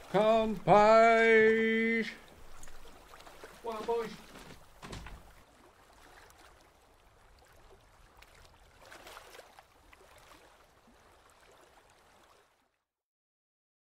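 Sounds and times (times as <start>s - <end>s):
water lapping and sloshing: 0.0s - 12.9s.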